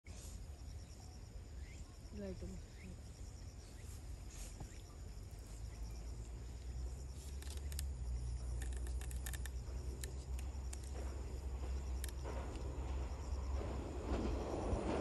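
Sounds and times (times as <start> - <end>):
faint insect chirps: 0.1 - 15.0
diesel railcar engine rumble: 2.2 - 15.0.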